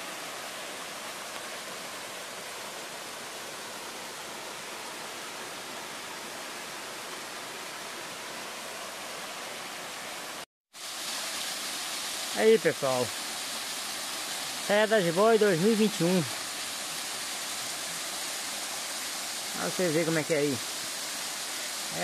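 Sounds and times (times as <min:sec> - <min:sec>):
small waterfall rushing: 0:00.0 - 0:22.0.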